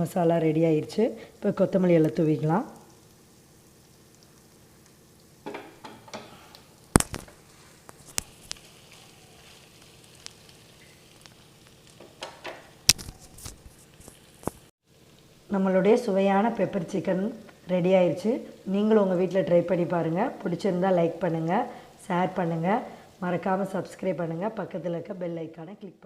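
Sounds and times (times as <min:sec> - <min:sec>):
food sizzling in a pan: 0:00.4 - 0:25.2.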